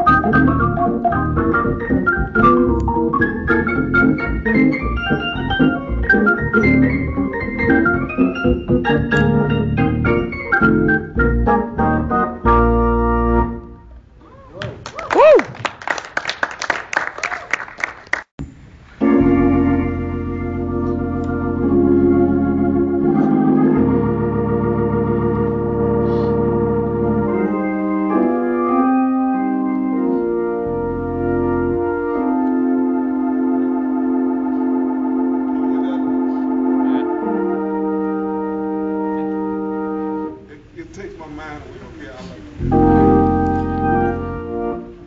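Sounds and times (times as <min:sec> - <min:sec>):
deep bass notes: 0:00.0 - 0:14.0, 0:18.4 - 0:40.0, 0:42.6 - 0:45.0
organ playing chords: 0:00.0 - 0:14.1, 0:19.0 - 0:45.0.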